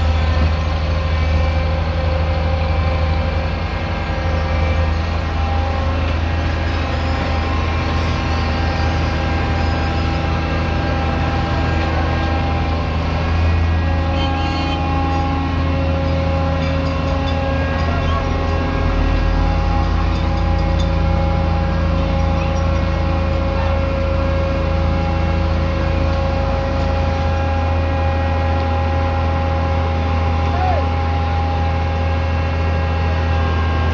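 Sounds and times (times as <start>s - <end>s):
heavy diesel machinery running: 0.0s - 33.9s
heavy engine droning: 0.0s - 33.9s.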